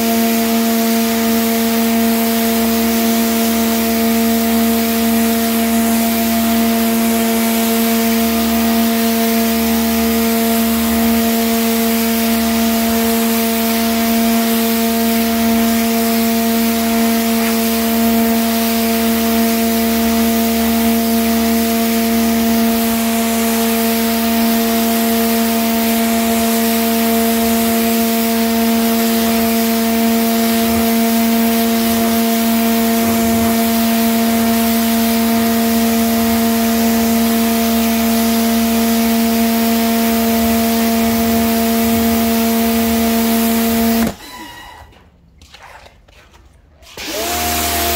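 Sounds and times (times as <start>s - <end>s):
high-pressure water jet hissing: 0.0s - 44.2s, 47.0s - 47.9s
pressure washer motor hum: 0.0s - 47.9s.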